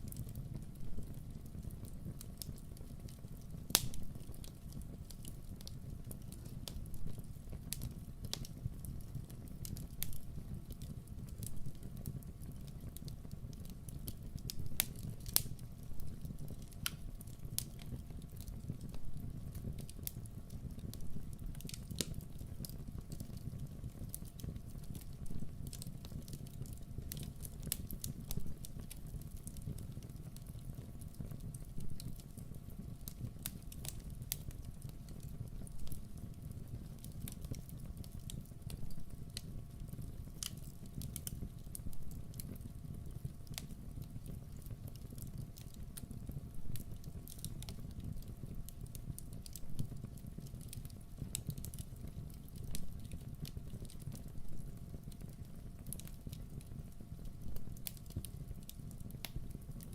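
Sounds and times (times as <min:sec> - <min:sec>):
campfire burning and crackling: 0:00.0 - 0:59.9.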